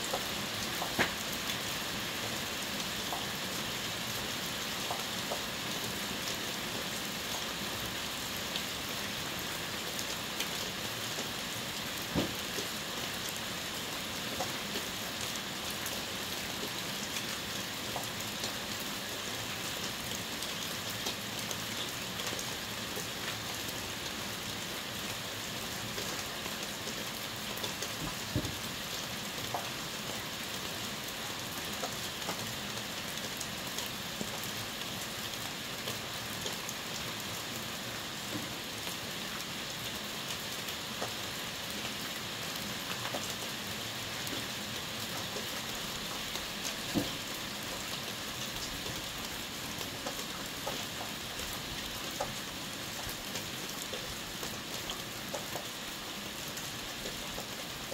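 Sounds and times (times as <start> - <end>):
rain falling on wet ground: 0.0 - 57.9.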